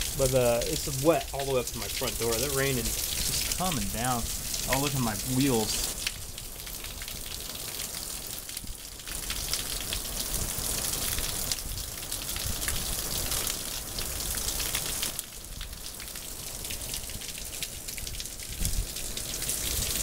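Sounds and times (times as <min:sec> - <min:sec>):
heavy rain on wet ground: 0:00.0 - 0:20.0.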